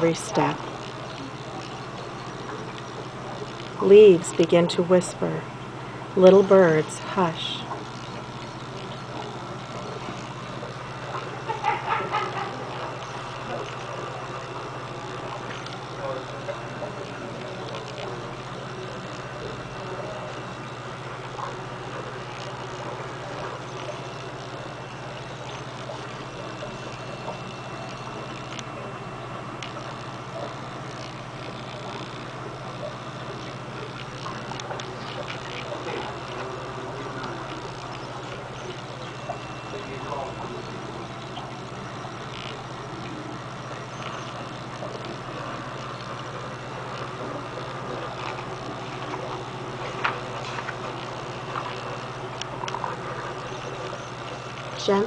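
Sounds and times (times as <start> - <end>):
constant hiss: 0.0 - 55.0
steady low hum: 0.0 - 55.0.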